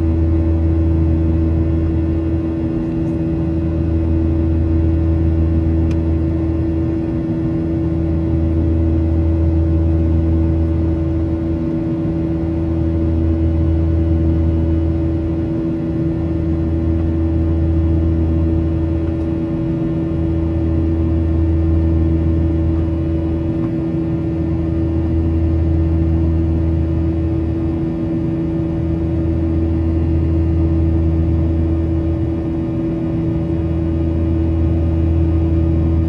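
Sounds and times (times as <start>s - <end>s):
jet engine drone in cabin: 0.0s - 36.0s.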